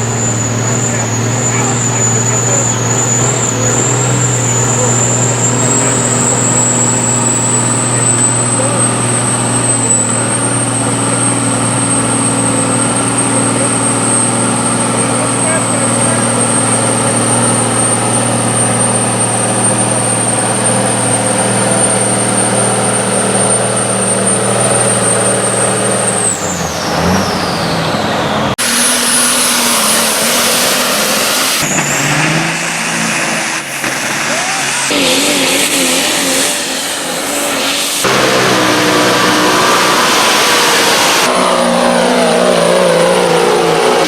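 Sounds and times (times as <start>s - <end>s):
truck engine running hard: 0.0s - 44.0s
truck engines revving: 0.0s - 44.0s.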